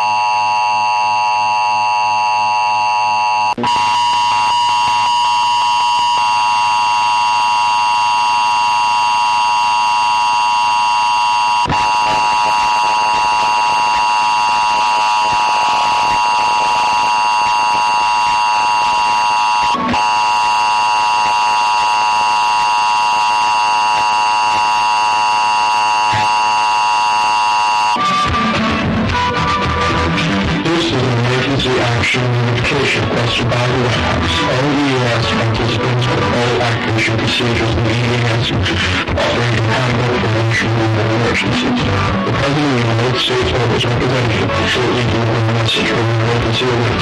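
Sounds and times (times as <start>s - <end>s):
harsh buzzing alarm tone: 0.0s - 47.0s.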